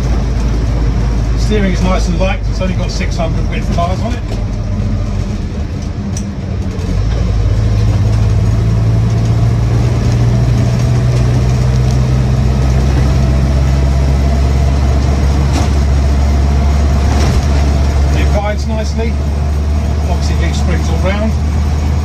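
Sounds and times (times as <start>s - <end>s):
car engine heard from cab: 0.0s - 22.0s.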